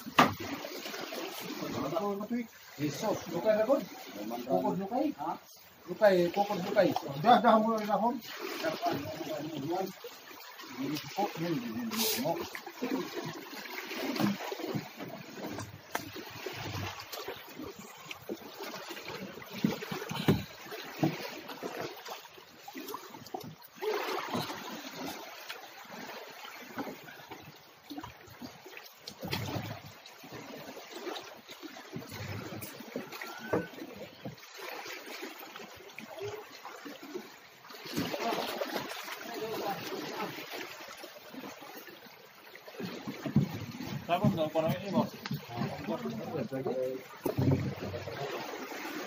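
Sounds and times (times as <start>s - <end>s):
water sloshing and splashing: 0.0s - 49.0s.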